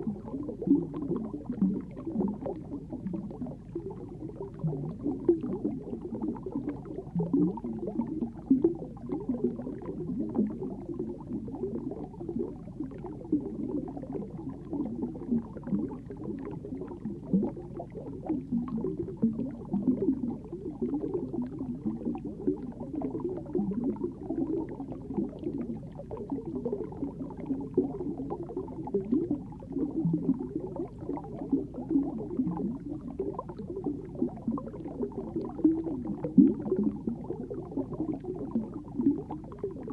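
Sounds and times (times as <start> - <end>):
muffled underwater bubbling: 0.0 - 39.9.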